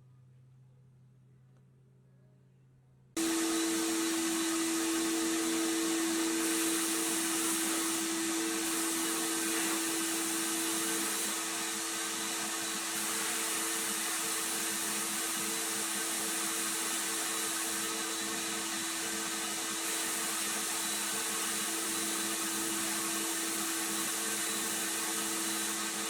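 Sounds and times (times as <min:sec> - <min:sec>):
workshop machine hissing and humming: 0:03.2 - 0:26.0.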